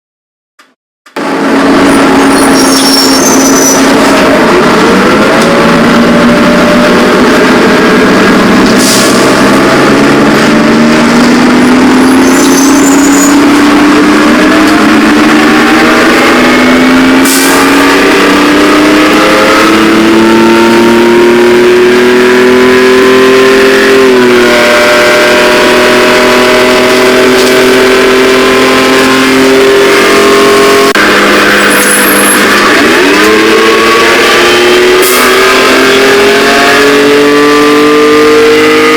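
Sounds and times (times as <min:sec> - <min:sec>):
car engine accelerating: 0:01.1 - 0:38.9.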